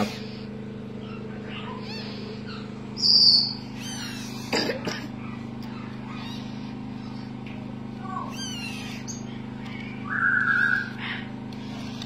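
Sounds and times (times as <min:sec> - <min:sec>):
parrot chick squeaking: 0:00.0 - 0:04.5, 0:05.2 - 0:07.3, 0:08.0 - 0:12.0
steady low hum: 0:00.0 - 0:12.0.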